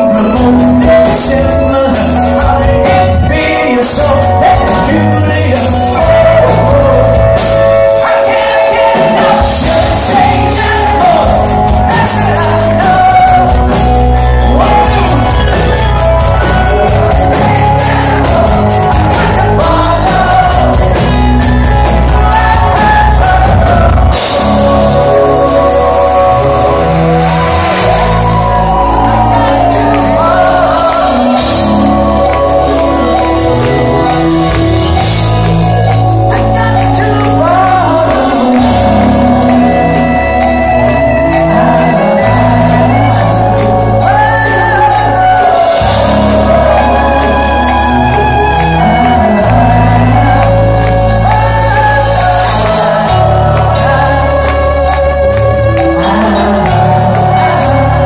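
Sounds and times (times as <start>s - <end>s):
drums: 0.0s - 58.0s
long bass notes: 0.0s - 58.0s
man singing amplified: 0.0s - 58.0s.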